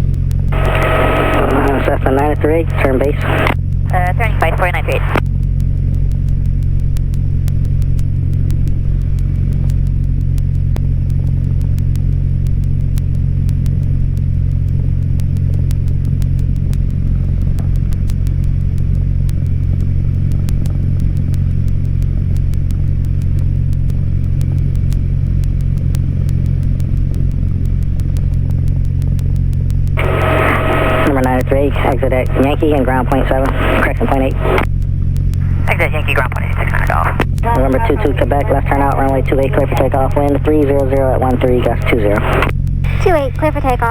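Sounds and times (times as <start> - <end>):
airplane piston engine idling: 0.0 - 10.6, 17.0 - 43.9.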